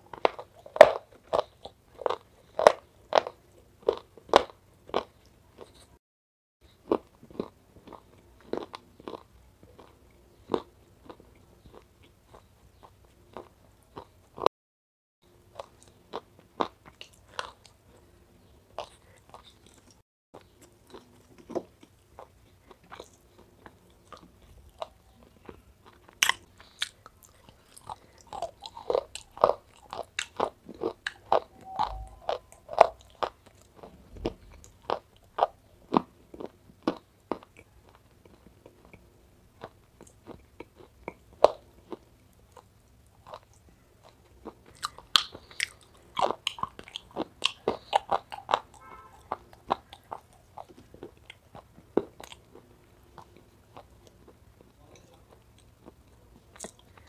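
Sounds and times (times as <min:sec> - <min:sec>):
crunching and chewing: 0:00.0 - 0:06.0, 0:06.7 - 0:14.5, 0:15.3 - 0:57.0.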